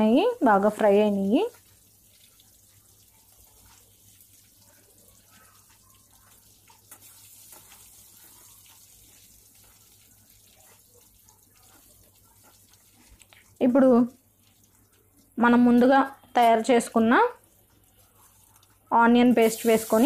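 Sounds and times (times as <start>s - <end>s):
hot oil sizzling: 0.0s - 20.0s.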